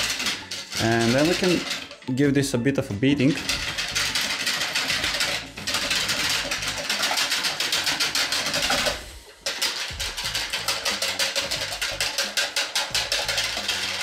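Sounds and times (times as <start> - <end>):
wire whisk clattering in plastic jug: 0.0 - 2.4, 3.2 - 14.0.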